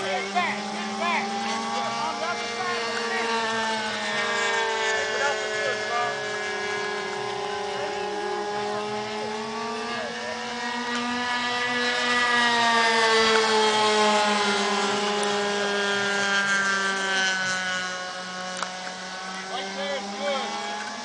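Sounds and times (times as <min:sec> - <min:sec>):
model airplane engines: 0:00.0 - 0:21.0.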